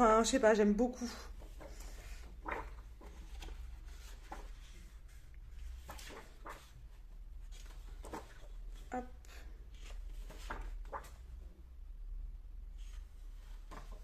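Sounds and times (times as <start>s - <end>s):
paper pages rustling: 1.0s - 11.5s, 12.7s - 14.0s.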